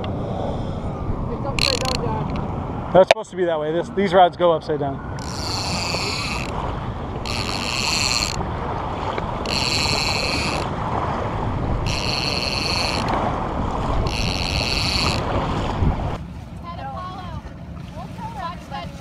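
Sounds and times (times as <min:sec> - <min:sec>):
small waves lapping: 0:00.0 - 0:19.0
wind buffeting microphone: 0:00.0 - 0:19.0.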